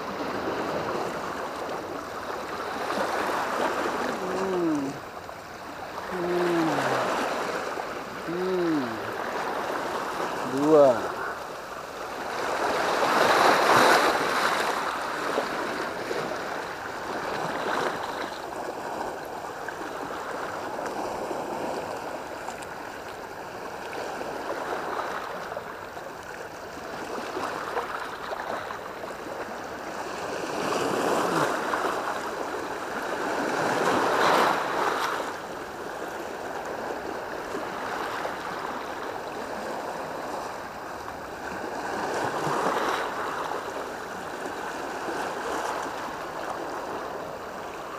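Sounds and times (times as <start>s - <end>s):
sea waves washing against rocks: 0.0s - 25.6s, 26.8s - 47.9s.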